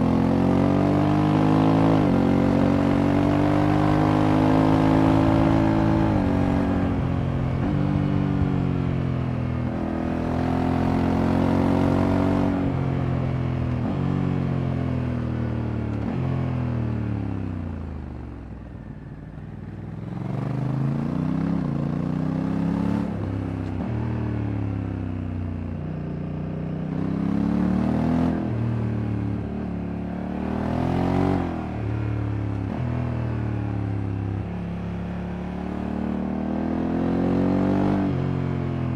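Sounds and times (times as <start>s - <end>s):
motorcycle engine accelerating: 0.0s - 25.2s, 26.8s - 38.9s.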